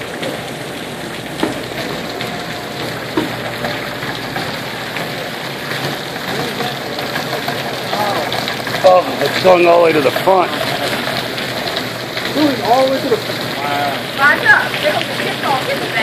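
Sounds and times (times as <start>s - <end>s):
water splashing onto floor: 0.0s - 16.0s.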